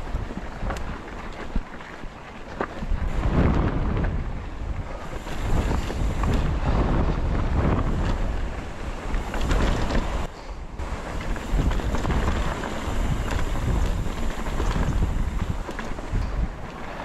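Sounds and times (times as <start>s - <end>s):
bike clicks and knocks over rocks: 0.0s - 17.0s
bike tyres on gravel: 0.0s - 17.0s
wind buffeting microphone: 0.0s - 17.0s.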